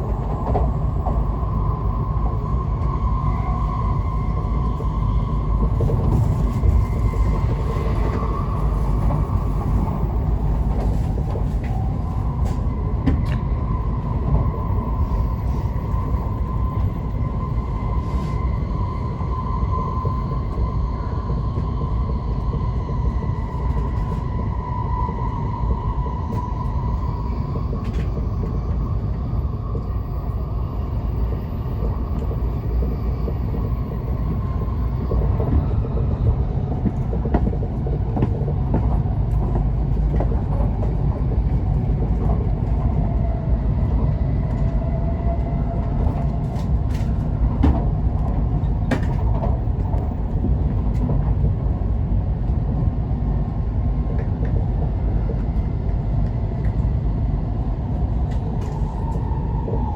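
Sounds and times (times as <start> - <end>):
train running heard inside: 0.0 - 59.9.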